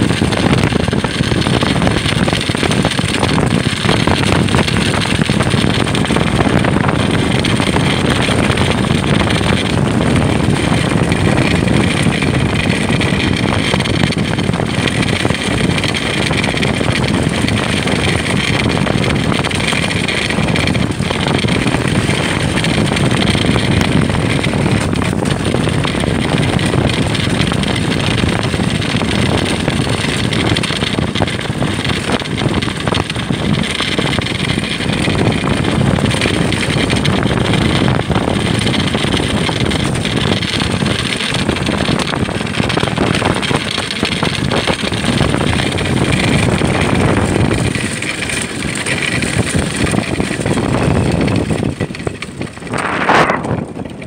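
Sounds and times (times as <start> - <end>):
runners rumbling on ice: 0.0 - 54.0
wind buffeting microphone: 0.0 - 54.0.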